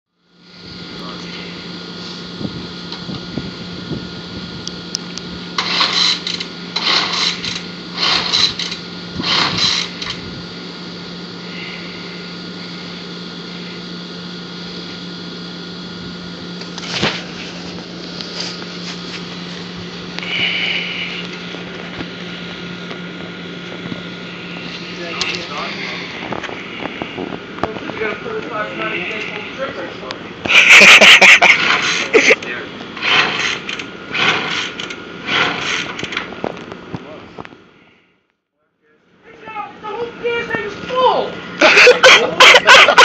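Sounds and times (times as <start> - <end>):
steady low hum: 0.1 - 43.0
recoil starter cord whirring: 0.2 - 37.8, 39.3 - 43.0.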